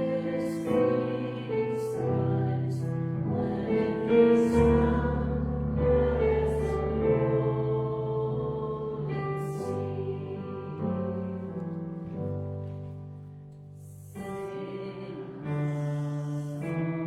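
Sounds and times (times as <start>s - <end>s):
congregation singing a hymn: 0.0s - 12.2s, 13.8s - 16.9s.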